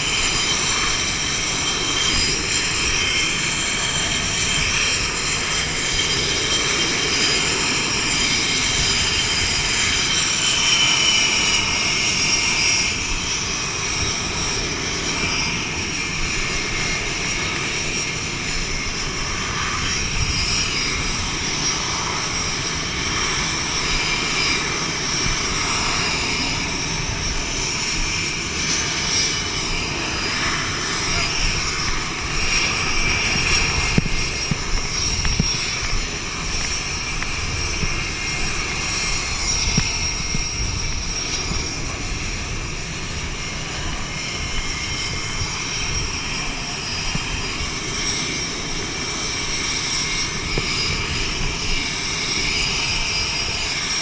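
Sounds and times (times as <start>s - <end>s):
jet engines roaring and whining: 0.0s - 54.0s.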